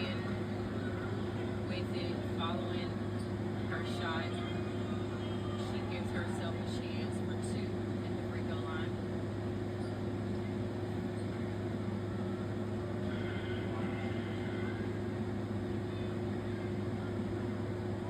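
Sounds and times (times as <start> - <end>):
murmur of voices: 0.0 - 9.4, 10.2 - 18.0
low electrical hum: 0.0 - 18.0.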